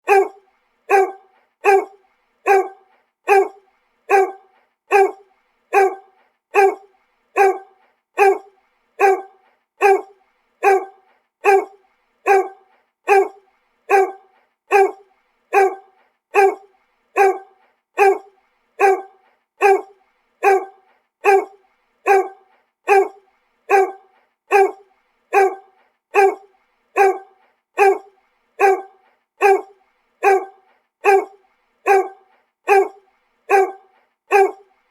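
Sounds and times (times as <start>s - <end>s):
dog barking: 0.0s - 34.8s.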